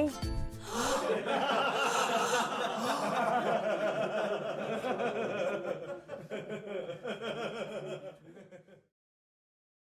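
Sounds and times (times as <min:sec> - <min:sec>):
people laughing: 0:00.8 - 0:08.9.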